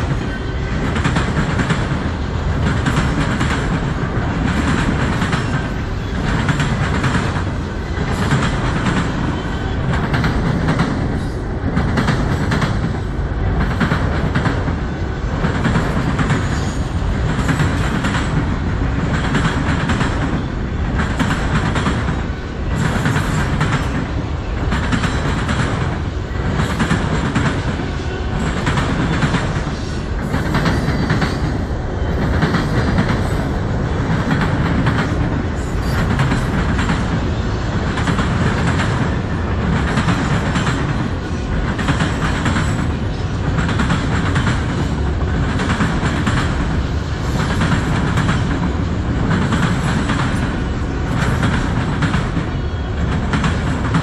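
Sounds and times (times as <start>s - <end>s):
freight train rumbling past: 0.0s - 54.0s
steel wheels clacking on track: 0.0s - 54.0s.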